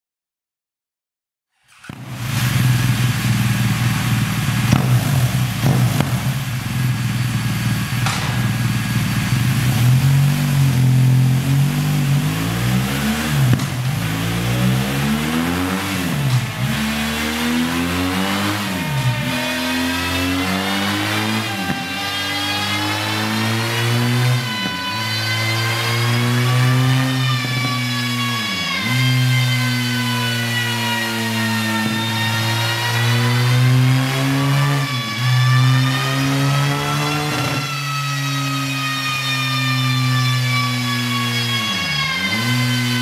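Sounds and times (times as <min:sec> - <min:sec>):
motorcycle engine revving: 0:01.7 - 0:43.0.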